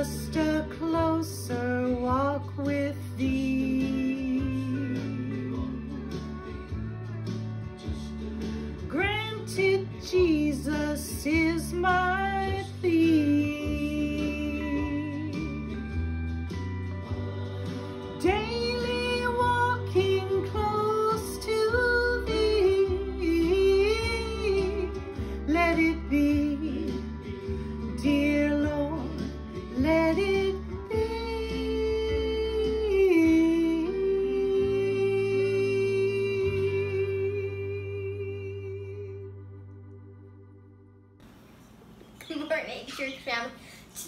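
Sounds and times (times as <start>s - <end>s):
woman singing: 0.0s - 6.7s, 8.8s - 15.9s, 17.8s - 39.4s.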